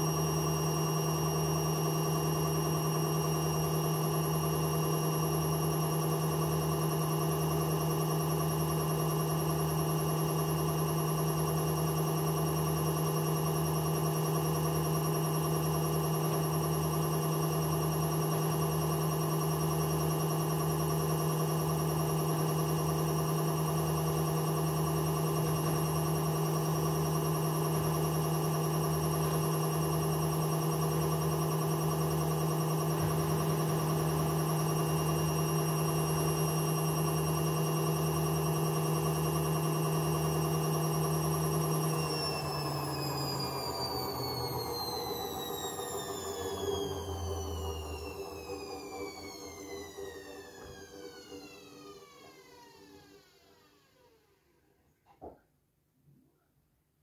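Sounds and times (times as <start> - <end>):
washing machine humming drone: 0.0 - 54.2.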